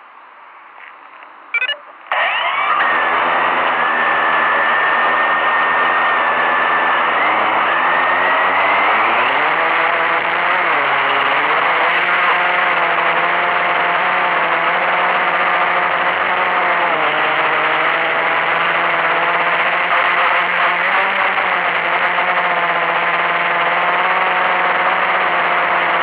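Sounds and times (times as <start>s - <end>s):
quadcopter propellers whirring: 1.6s - 26.0s.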